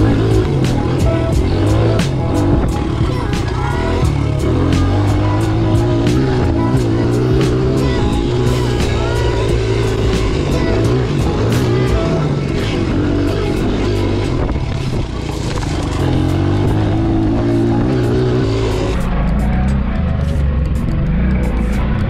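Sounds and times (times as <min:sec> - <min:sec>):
background music: 0:00.0 - 0:22.0
pit bike engine revving: 0:00.0 - 0:22.0.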